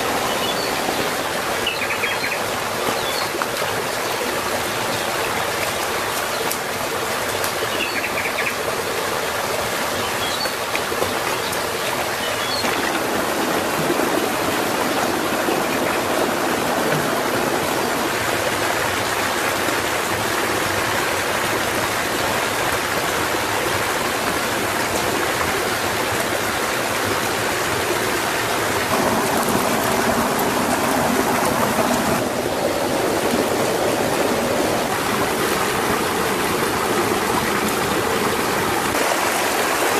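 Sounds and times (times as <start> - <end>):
stream over stones: 0.0 - 39.9.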